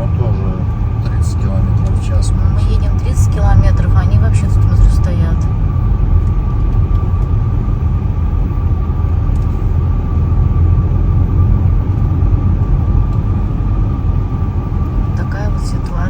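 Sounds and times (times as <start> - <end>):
car engine and road rumble: 0.0 - 16.0
thin steady whine: 0.0 - 16.0.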